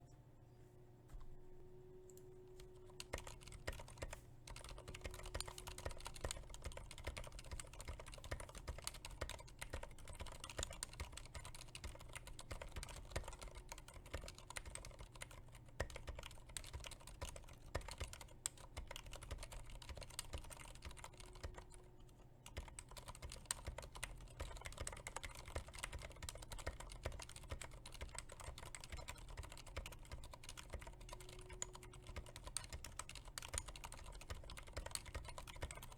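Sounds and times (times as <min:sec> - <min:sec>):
quiet keyboard typing: 0:02.0 - 0:35.9.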